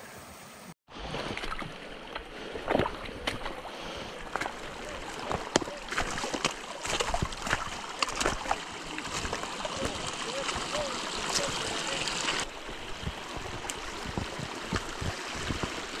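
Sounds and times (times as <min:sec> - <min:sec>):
running water: 0:00.9 - 0:16.0
footsteps splashing in creek: 0:01.0 - 0:16.0.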